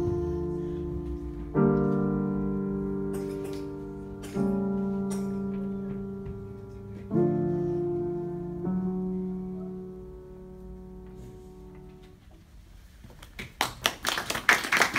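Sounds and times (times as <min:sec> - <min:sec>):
grand piano chords: 0:00.0 - 0:12.7.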